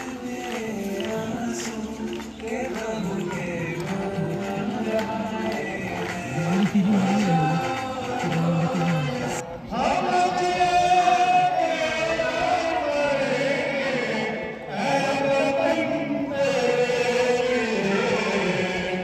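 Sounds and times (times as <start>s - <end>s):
voices chanting: 0.0s - 19.0s.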